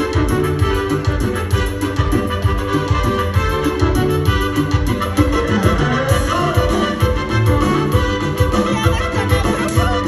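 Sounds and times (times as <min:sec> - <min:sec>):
bass and drum beat: 0:00.0 - 0:10.0
electric keyboard chords: 0:00.0 - 0:10.0.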